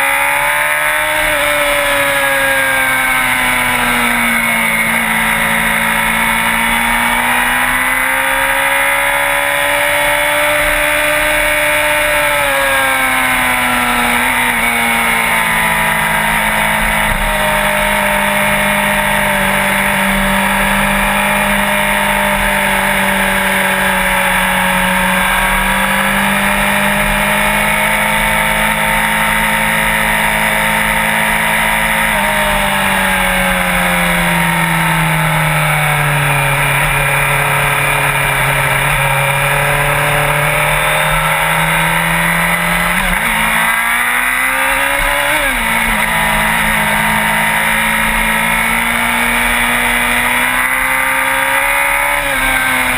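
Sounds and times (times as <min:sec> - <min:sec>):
sport bike engine running: 0:00.0 - 0:52.9.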